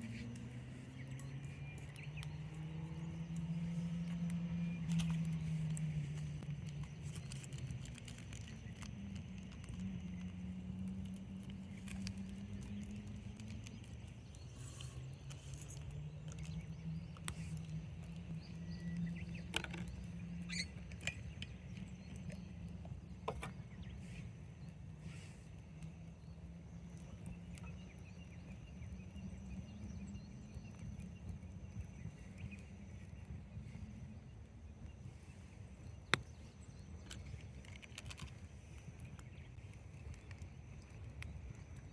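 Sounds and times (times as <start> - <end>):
campfire crackling: 0.0 - 41.9
low steady hum: 0.0 - 41.9.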